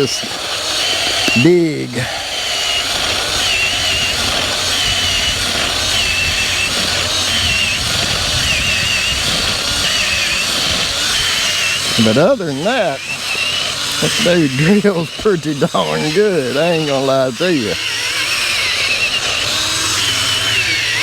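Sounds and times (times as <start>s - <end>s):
drill motor whine: 0.0s - 21.0s.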